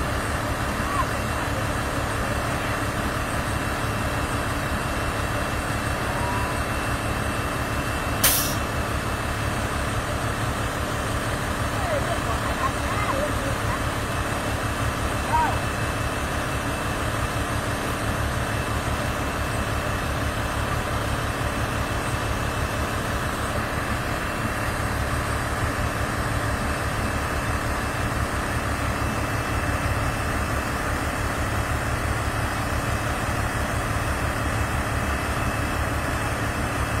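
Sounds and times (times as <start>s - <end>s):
harvester engine low throb: 0.0s - 37.0s.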